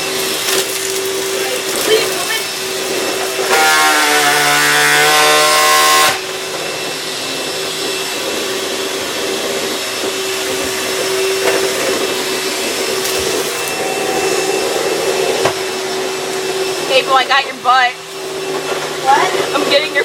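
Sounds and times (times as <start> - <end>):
high whining tone: 0.0 - 20.0
vacuum cleaner running: 0.0 - 20.0.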